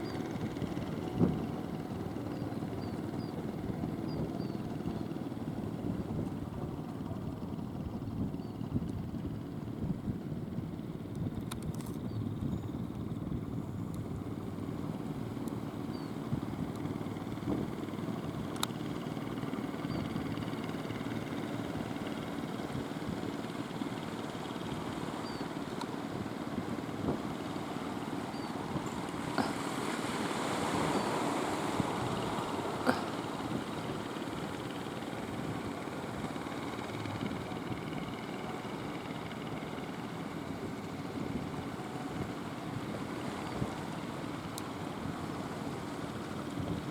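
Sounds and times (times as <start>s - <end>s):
boat engines droning: 0.0s - 46.9s.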